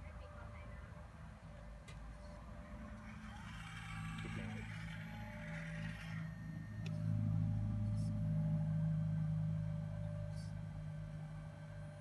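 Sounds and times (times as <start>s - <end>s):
hydraulic pump humming: 2.3s - 12.0s.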